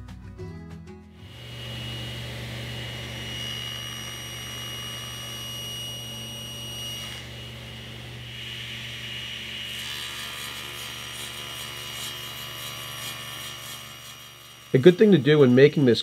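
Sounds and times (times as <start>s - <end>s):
table saw cutting wood: 1.2s - 16.0s.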